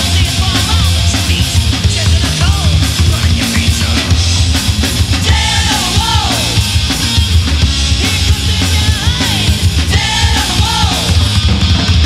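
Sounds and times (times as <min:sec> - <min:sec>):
bending lead guitar melody: 0:00.0 - 0:12.0
hard rock band playing: 0:00.0 - 0:12.0.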